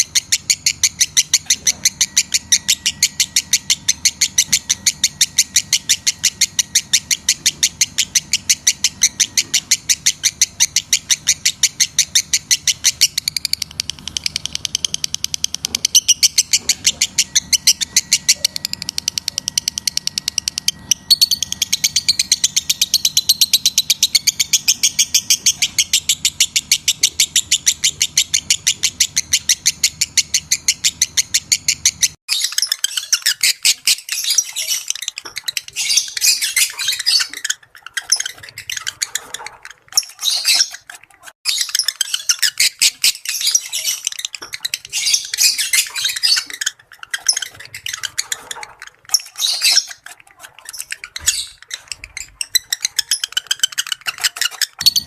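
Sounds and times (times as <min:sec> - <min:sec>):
lovebird chirping: 0:00.0 - 0:55.0.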